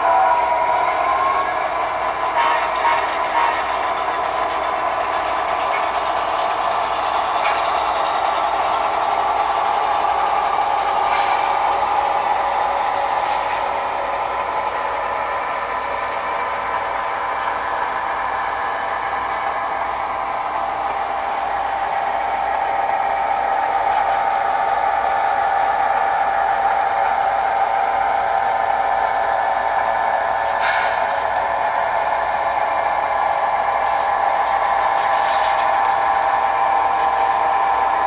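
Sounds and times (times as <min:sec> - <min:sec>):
model locomotive diesel engine sound: 0:00.0 - 0:38.0.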